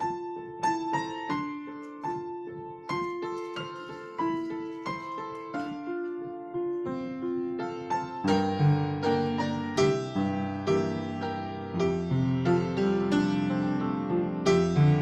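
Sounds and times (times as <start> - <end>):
solo piano melody: 0.0 - 15.0.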